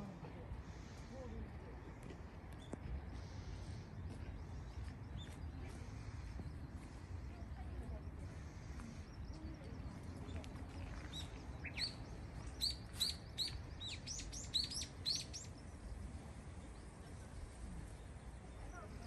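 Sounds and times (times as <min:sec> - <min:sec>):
songbird chirping: 0:01.9 - 0:19.0.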